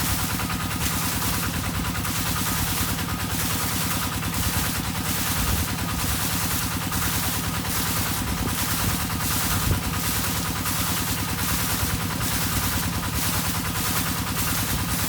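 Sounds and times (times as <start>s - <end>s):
water pump engine running: 0.0s - 15.0s.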